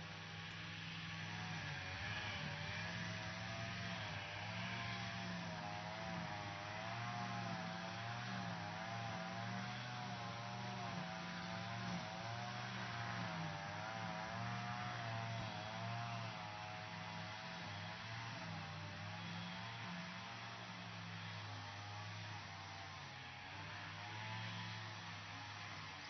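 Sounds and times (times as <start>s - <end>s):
lawn mower running: 0.0s - 26.0s.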